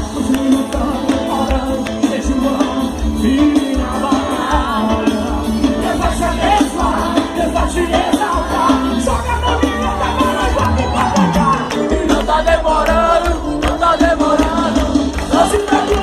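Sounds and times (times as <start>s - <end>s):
heavy bass beat: 0.0s - 16.0s
praise music with singing: 0.0s - 16.0s.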